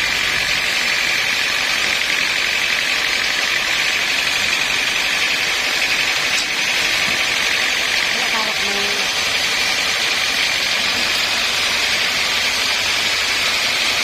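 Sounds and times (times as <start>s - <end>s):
sawmill machinery whining: 0.0s - 14.0s.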